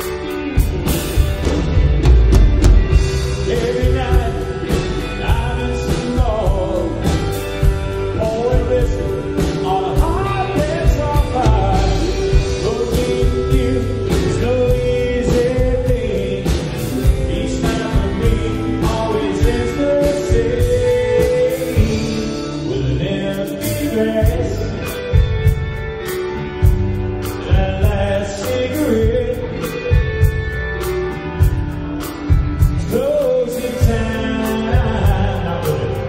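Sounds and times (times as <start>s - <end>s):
live country band playing: 0.0s - 36.0s
man singing lead vocals: 2.9s - 25.6s, 27.2s - 30.3s, 32.6s - 36.0s.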